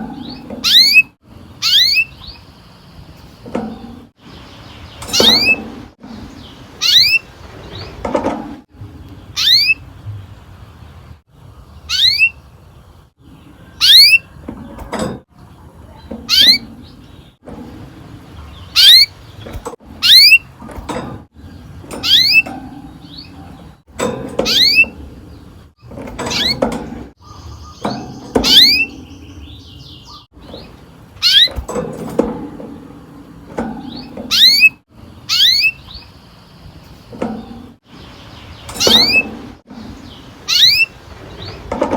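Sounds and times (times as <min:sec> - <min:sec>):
canary chirping: 0:00.0 - 0:08.3, 0:09.1 - 0:10.1, 0:11.6 - 0:14.5, 0:15.1 - 0:17.4, 0:18.1 - 0:32.3, 0:33.5 - 0:41.8.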